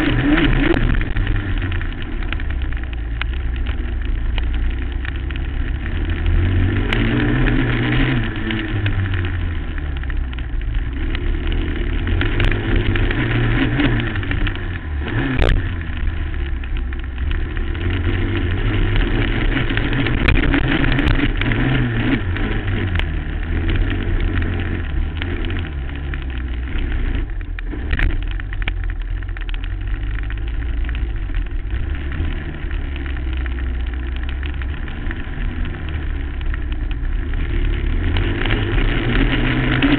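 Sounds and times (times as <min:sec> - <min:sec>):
quad engine revving: 0:00.0 - 0:02.8, 0:04.7 - 0:28.7, 0:30.4 - 0:39.9.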